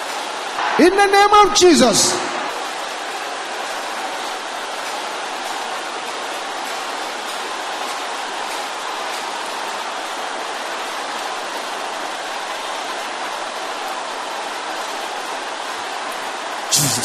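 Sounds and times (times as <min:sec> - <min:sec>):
crowd praying aloud: 0:00.0 - 0:17.0.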